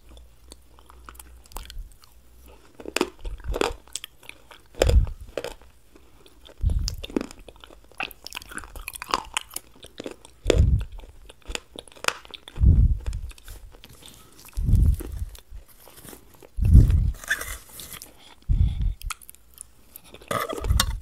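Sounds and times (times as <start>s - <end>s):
crunching and chewing crisp wafers: 0.0s - 21.0s.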